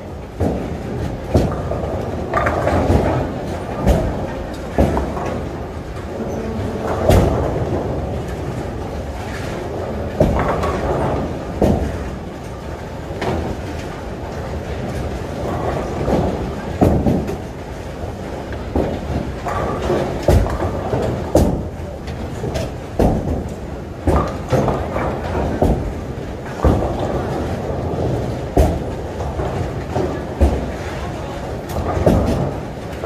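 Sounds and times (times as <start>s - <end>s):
bowling balls rumbling: 0.0s - 33.0s
bowling pins crashing: 0.2s - 33.0s.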